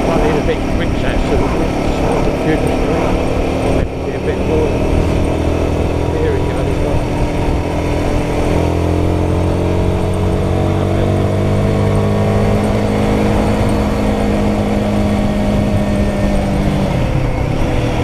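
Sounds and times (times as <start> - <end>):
motorcycle engine revving: 0.0 - 18.0
wind noise: 0.0 - 18.0.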